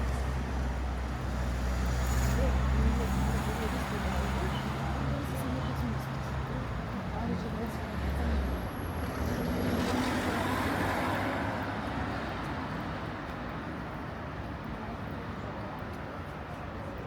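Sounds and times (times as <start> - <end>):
steady traffic noise: 0.0 - 17.0.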